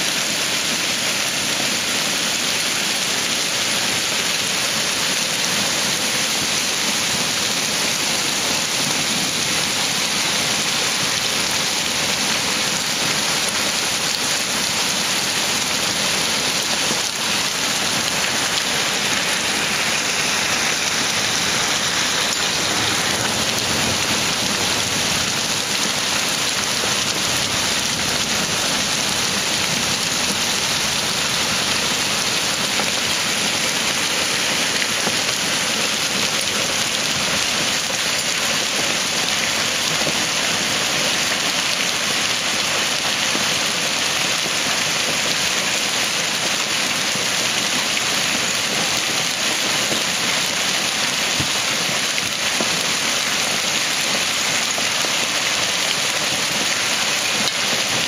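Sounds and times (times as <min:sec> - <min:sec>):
torrential rain and hail: 0:00.0 - 0:58.0.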